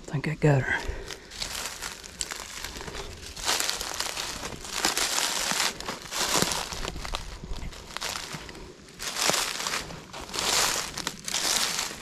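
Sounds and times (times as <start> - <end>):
footsteps crunching through dry leaves: 0.4 - 12.0.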